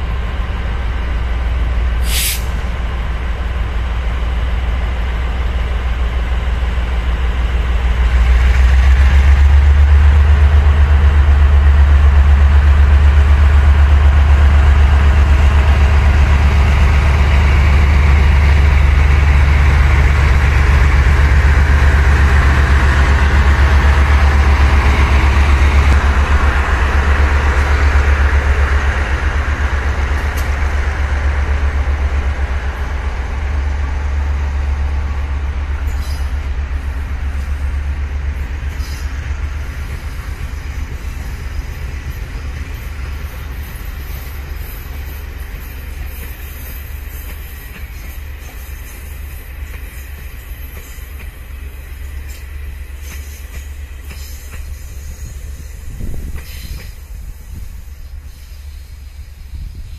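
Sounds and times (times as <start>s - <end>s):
locomotive engine drone: 0.0s - 59.9s.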